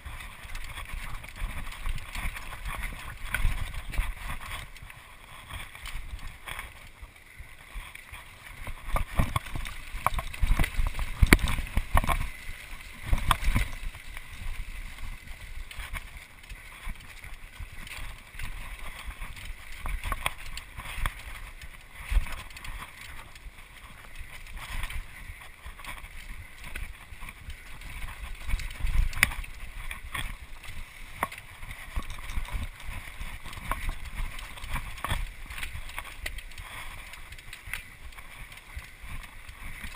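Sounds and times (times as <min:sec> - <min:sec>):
mountain bike rattling over rocks: 0:00.0 - 0:39.9
wind rumble on microphone: 0:00.0 - 0:39.9.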